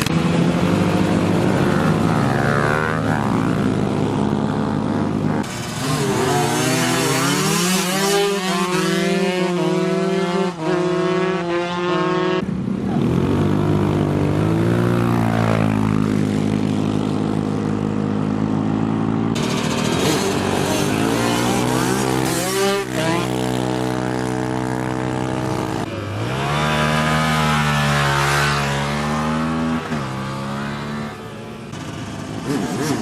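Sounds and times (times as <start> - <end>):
motorbike engines revving: 0.0 - 33.0.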